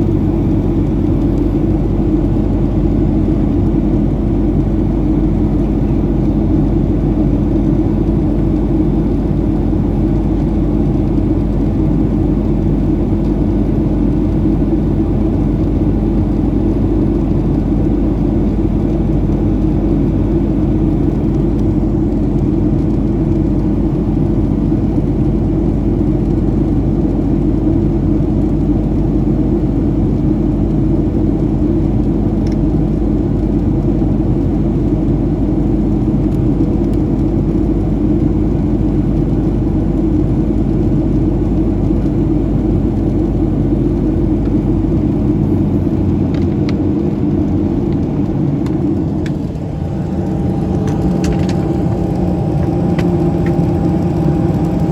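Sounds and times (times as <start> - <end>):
aircraft cabin engine drone: 0.0 - 54.9
low hum: 0.0 - 54.9.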